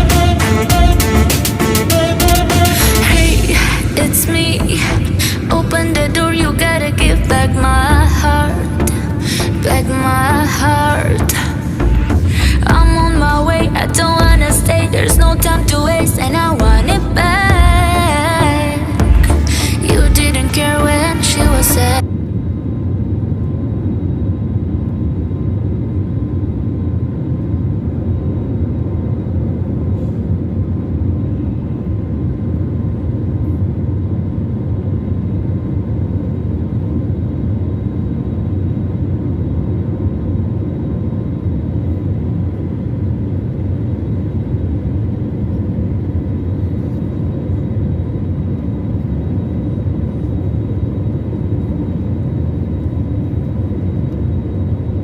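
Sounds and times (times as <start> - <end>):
airliner engine and airflow roar: 0.0 - 55.0
faint high whine: 0.0 - 55.0.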